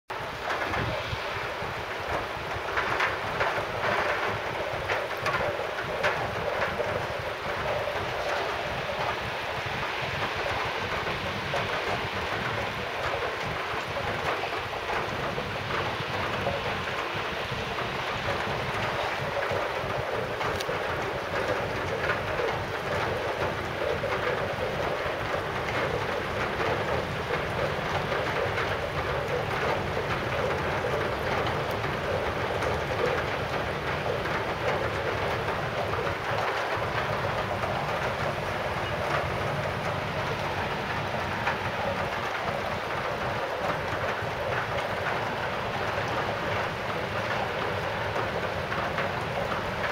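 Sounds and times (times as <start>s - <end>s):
sleet pattering on wet ground: 0.1s - 49.9s.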